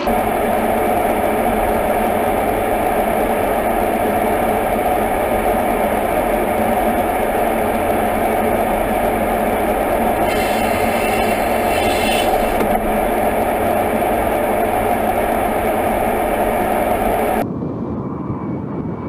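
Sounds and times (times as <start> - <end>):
airflow and jet engine drone: 0.0 - 19.0.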